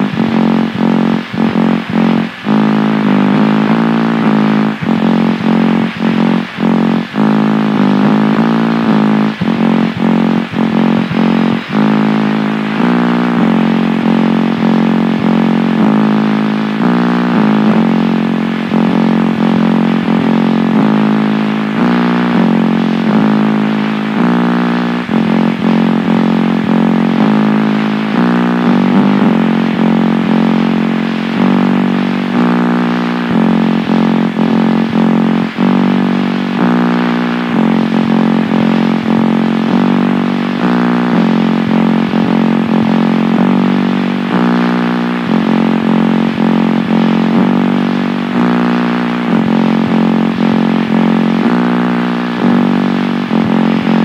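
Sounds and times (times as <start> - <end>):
buzzing noise music drone: 0.0 - 54.0.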